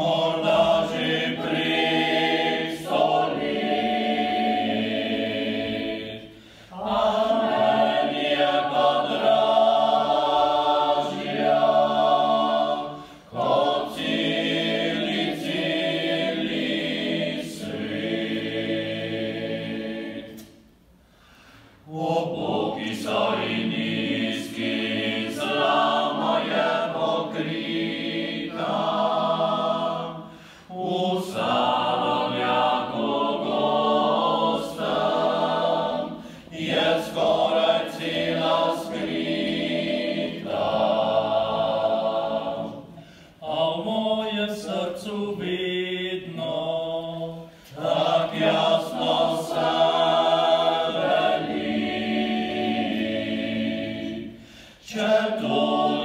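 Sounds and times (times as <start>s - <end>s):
male ensemble singing a cappella: 0.0s - 20.6s, 21.8s - 56.0s.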